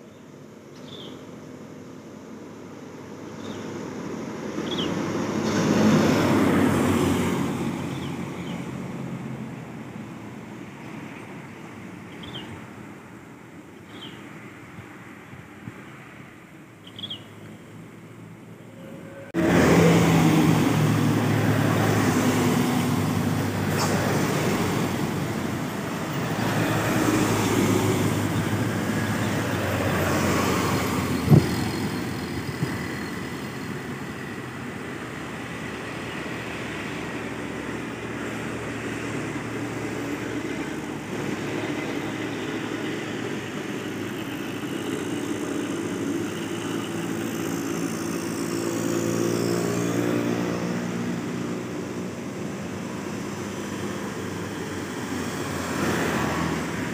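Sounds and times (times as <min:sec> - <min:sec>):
diesel engines rumbling in traffic: 0:00.0 - 0:56.9.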